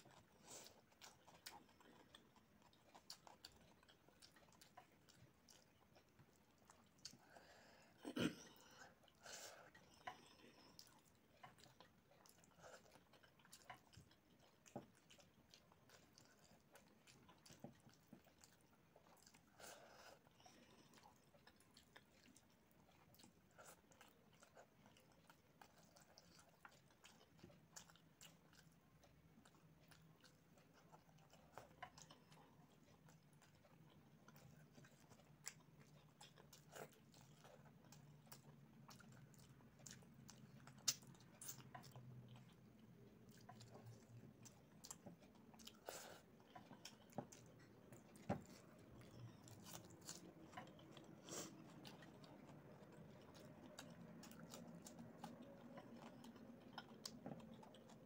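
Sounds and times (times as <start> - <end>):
close-up chewing: 0.0 - 58.0
faint low hum: 0.0 - 58.0.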